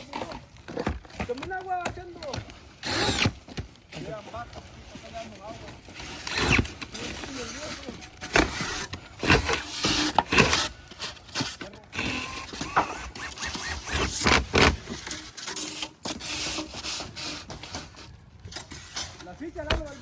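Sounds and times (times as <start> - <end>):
metal roof shingles knocking and scraping: 0.0 - 13.2, 13.8 - 20.0.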